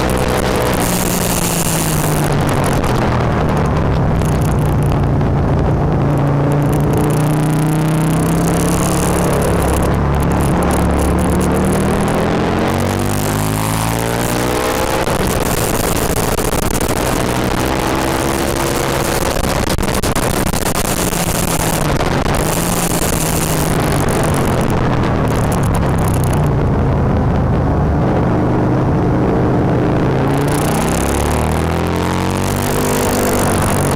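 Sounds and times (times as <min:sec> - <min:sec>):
motorcycle engine revving: 0:00.0 - 0:33.9
wind noise: 0:00.0 - 0:33.9.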